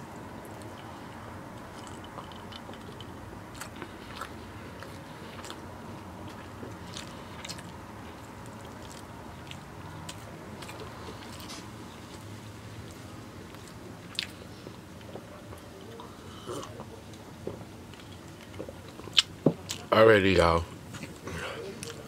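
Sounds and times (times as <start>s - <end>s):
low background hum: 0.0s - 22.0s
person chewing: 0.4s - 19.9s.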